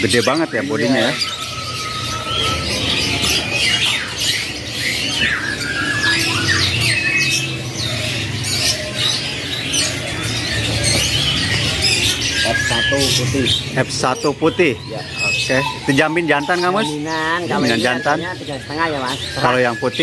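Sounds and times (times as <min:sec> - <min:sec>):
canaries chirping: 0:00.0 - 0:20.0.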